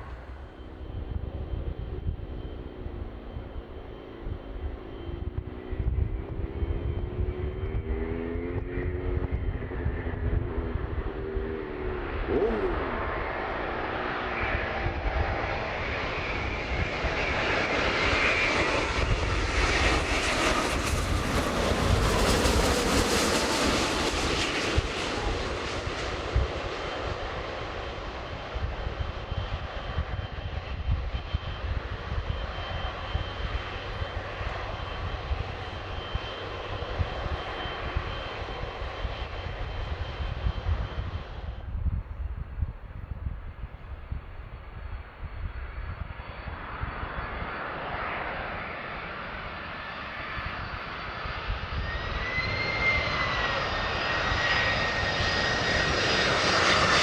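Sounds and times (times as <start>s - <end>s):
jet airliner passing: 0.0s - 57.0s.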